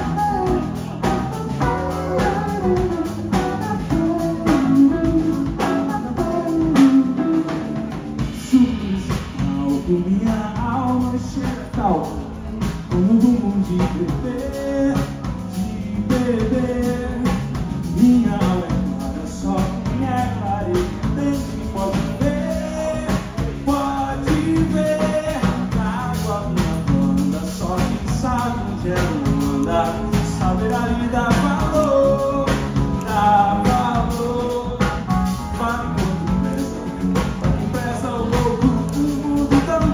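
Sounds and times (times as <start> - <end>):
drums: 0.0 - 39.9
electric bass: 0.0 - 39.9
electric guitar: 0.0 - 39.9
keyboard: 0.0 - 39.9
man singing: 0.0 - 39.9.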